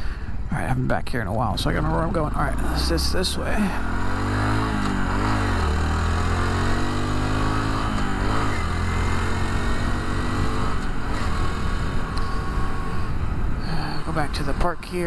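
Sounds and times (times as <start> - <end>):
motorcycle engine running: 1.8 - 15.0.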